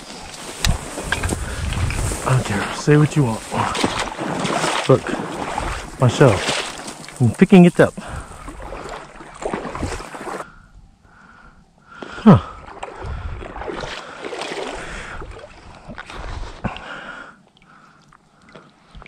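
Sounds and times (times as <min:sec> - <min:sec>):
water sloshing with wading steps: 0:00.0 - 0:10.5, 0:12.4 - 0:19.0.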